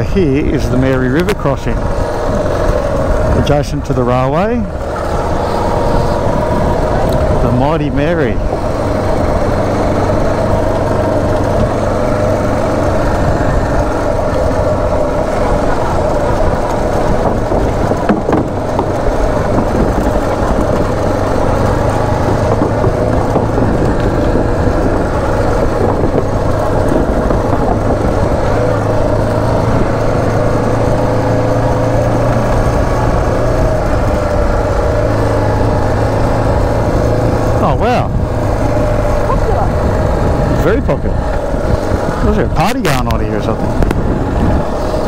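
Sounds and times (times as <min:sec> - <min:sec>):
motorcycle engine running: 0:00.0 - 0:45.0
wind rumble: 0:00.0 - 0:45.0.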